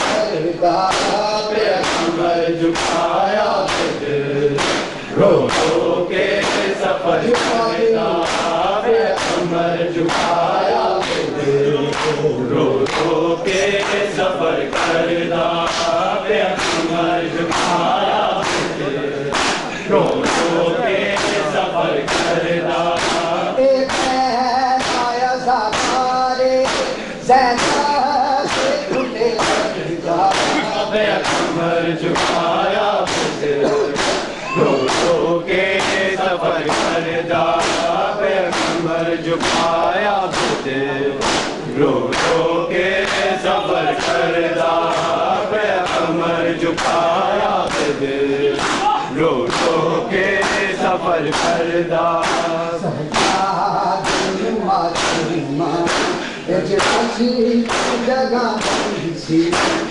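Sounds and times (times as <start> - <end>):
hands slapping chests: 0.0 - 12.2, 12.8 - 24.2, 24.8 - 59.9
men chanting in chorus: 0.0 - 59.9.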